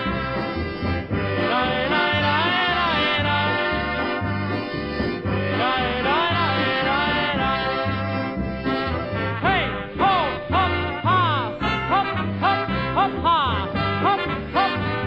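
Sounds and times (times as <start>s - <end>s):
polka band music: 0.0s - 15.0s.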